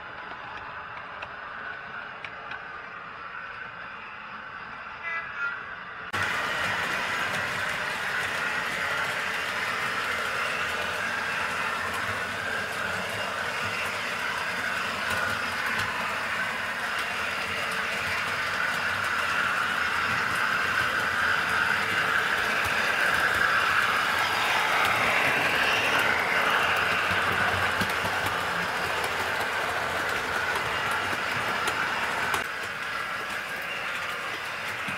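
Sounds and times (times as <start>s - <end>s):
model train running on track: 0.0s - 34.9s.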